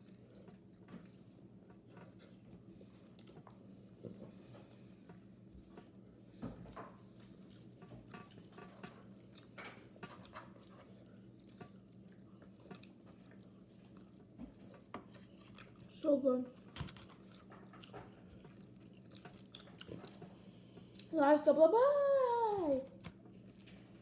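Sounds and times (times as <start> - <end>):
person chewing food: 0.0 - 6.0, 6.8 - 21.1
low background hum: 0.0 - 24.0.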